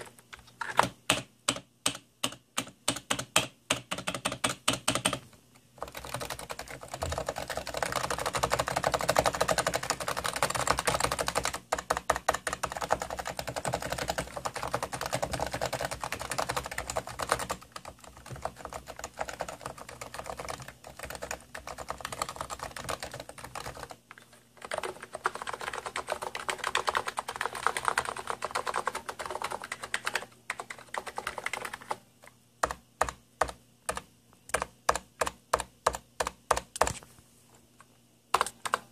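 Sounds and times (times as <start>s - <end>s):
keyboard typing: 0.0s - 37.0s, 38.3s - 38.9s.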